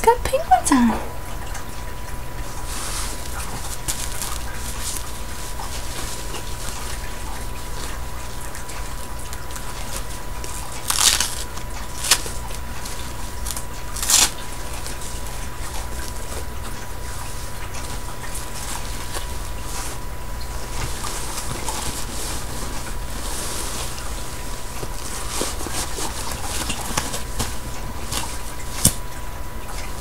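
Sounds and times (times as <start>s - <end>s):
steady low hum: 0.0s - 30.0s
diaper crinkling and rustling: 2.4s - 30.0s.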